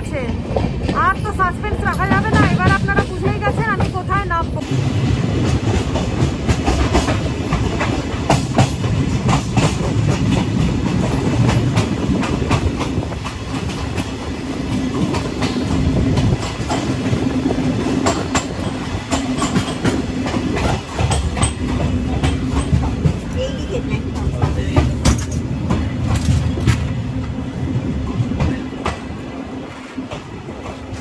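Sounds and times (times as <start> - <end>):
train rumbling along rails: 0.0 - 31.0
wheels clicking over rail joints: 0.2 - 31.0.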